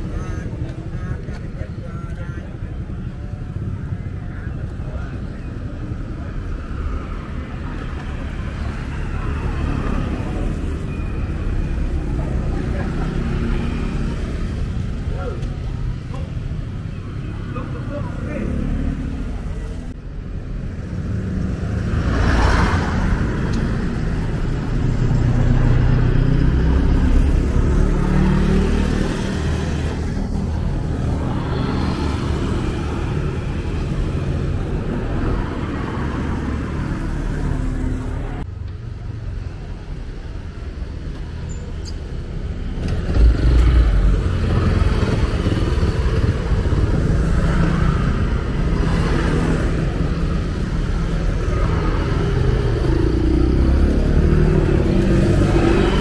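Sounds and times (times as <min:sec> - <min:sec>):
vehicles passing close by: 0:00.0 - 0:56.0.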